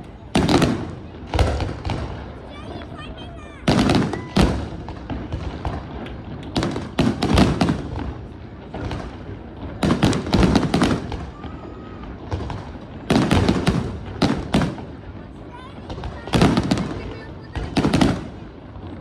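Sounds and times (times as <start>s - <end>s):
fireworks bangs with crackling: 0.0s - 19.0s.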